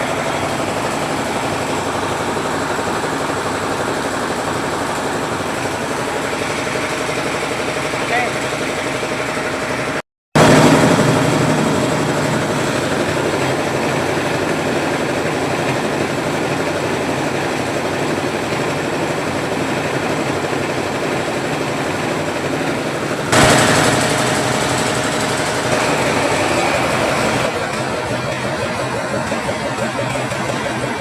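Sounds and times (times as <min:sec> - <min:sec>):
rice milling machine running: 0:00.0 - 0:31.0.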